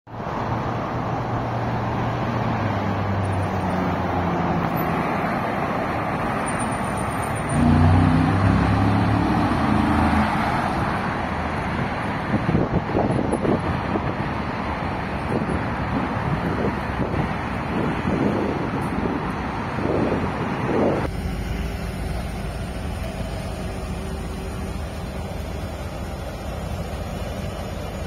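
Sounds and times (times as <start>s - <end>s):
road traffic noise: 0.1s - 28.0s
car engine passing: 0.3s - 27.8s.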